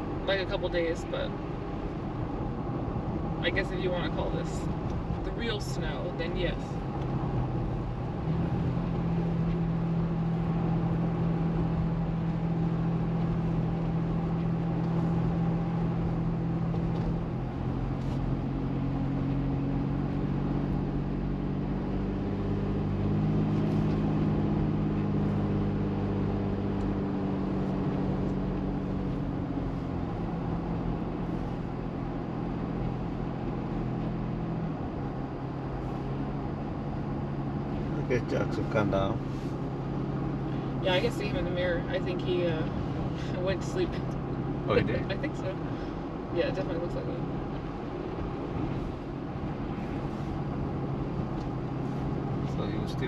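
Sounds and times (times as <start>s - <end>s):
car engine drone: 0.0s - 53.0s
road noise inside car: 0.0s - 53.0s.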